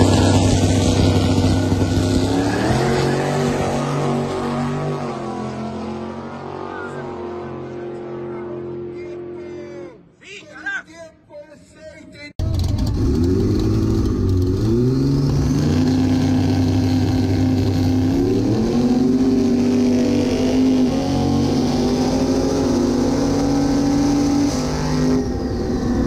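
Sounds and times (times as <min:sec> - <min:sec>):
drag racing engine revving: 0:00.0 - 0:09.4, 0:12.4 - 0:26.0.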